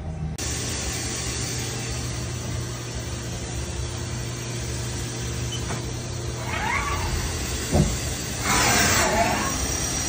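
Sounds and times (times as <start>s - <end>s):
lathe machine hum: 0.4s - 10.0s.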